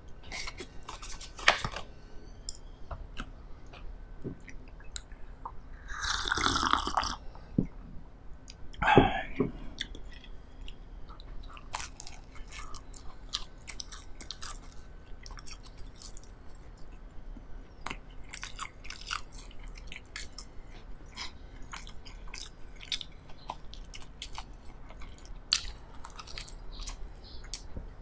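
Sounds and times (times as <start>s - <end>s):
person chewing bread: 0.0s - 7.3s, 9.6s - 27.7s.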